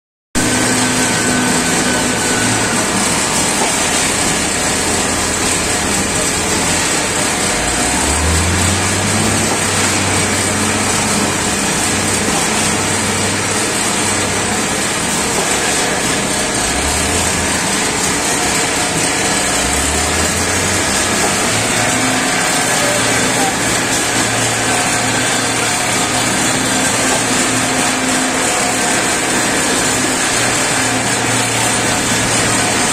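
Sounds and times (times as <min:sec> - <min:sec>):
bagging line and conveyor running: 0:00.4 - 0:32.9.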